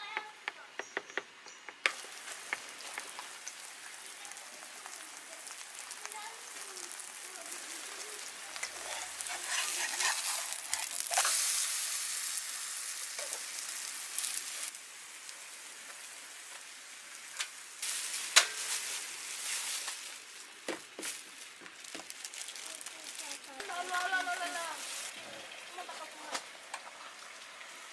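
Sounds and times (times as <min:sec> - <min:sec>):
food sizzling as it fries: 0:01.8 - 0:27.9.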